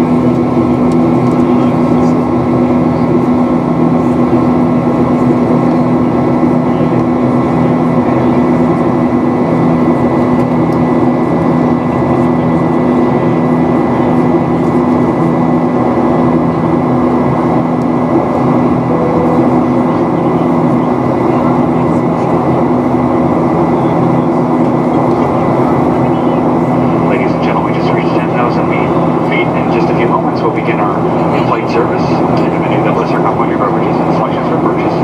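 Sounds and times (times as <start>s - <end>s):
airplane cabin noise: 0.0s - 35.0s.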